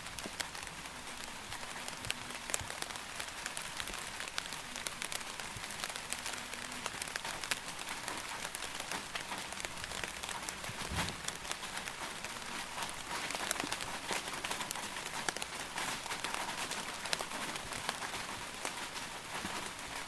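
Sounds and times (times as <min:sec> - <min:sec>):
rain drops ticking on a surface: 0:00.0 - 0:20.0.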